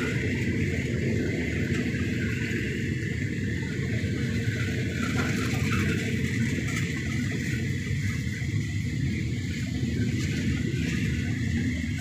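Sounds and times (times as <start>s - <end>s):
train running hiss: 0.0s - 12.0s
train wheels rumbling on rails: 0.0s - 12.0s.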